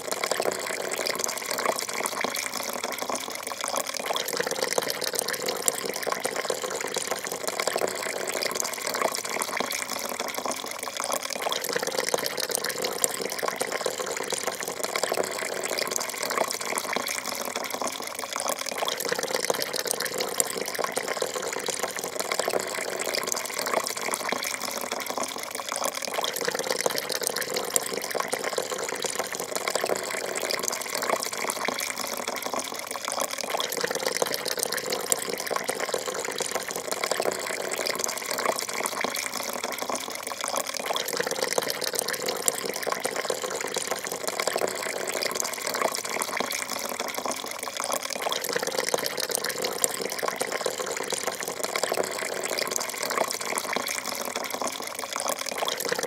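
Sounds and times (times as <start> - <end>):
coffee pouring into cup: 0.0 - 56.0.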